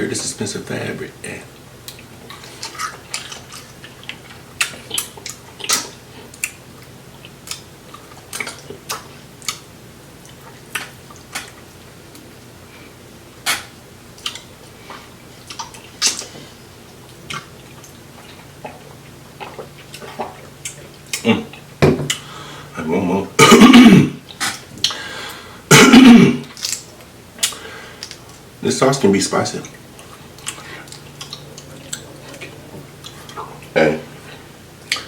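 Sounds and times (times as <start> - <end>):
faint low hum: 0.0 - 35.0
wet chewing sounds: 1.5 - 22.4, 24.2 - 25.5, 26.4 - 28.6, 29.6 - 35.0.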